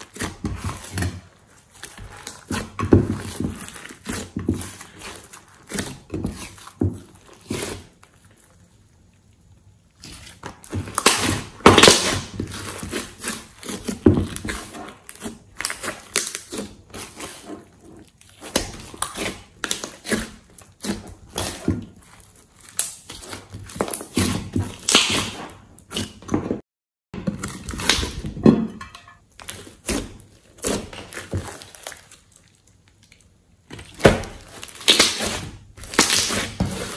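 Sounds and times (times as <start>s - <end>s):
slime squishing by hand: 0.0s - 26.6s, 29.3s - 36.9s.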